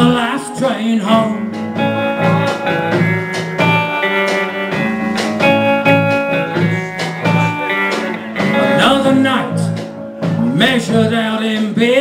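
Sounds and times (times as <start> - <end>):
person singing: 0.0 - 3.0, 3.6 - 12.0
guitar-led band music: 0.0 - 12.0.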